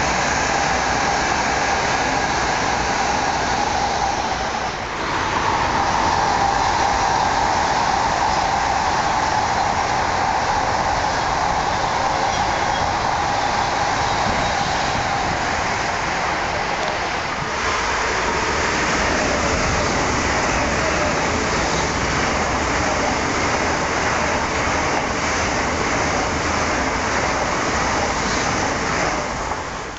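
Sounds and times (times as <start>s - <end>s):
high-speed train passing: 0.0s - 29.9s.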